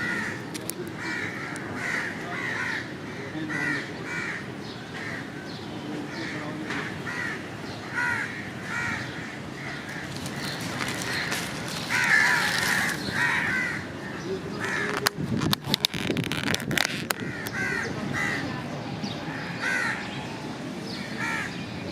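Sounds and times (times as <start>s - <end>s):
crows cawing: 0.0s - 15.2s, 15.9s - 18.5s, 19.3s - 20.2s, 21.0s - 21.6s.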